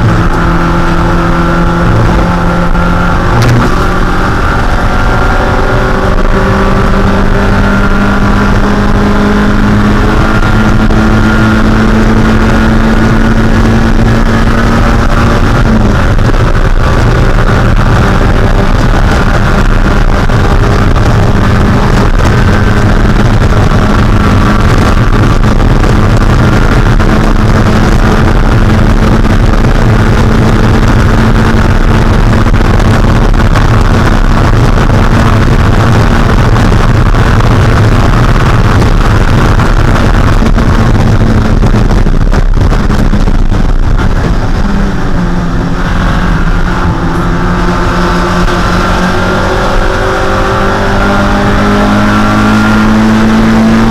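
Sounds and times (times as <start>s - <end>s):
racing engine at full throttle: 0.0s - 53.9s
steady rush of noise: 0.0s - 53.9s.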